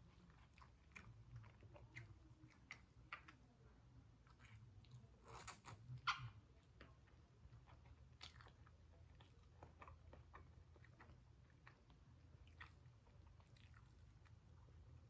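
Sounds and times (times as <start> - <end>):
low steady hum: 0.0 - 15.0
person chewing food: 0.0 - 15.0.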